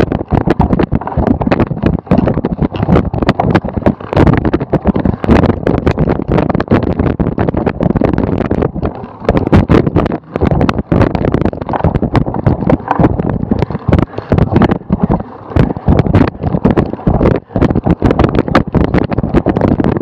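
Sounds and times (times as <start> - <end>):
bike rattling over bumps: 0.0 - 20.0
wind buffeting microphone: 0.0 - 20.0.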